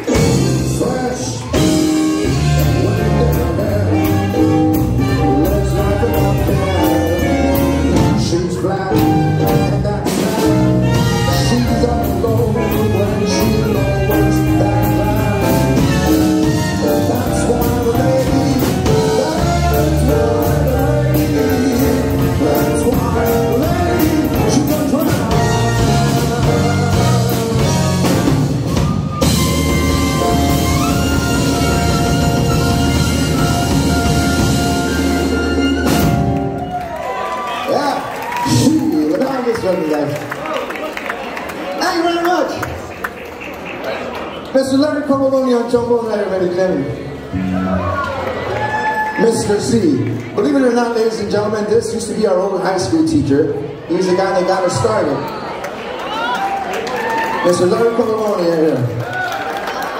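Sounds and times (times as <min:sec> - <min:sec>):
big band playing swing: 0:00.0 - 0:59.9.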